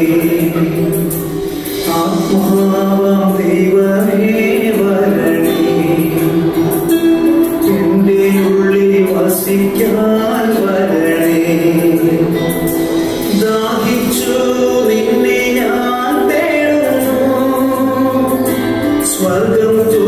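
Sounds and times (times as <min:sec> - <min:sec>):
song with singing voices: 0:00.0 - 0:20.0.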